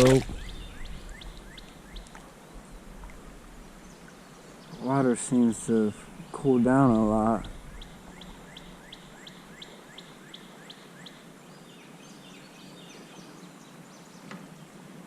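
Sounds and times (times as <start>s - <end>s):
songbird calling: 0.0s - 14.7s.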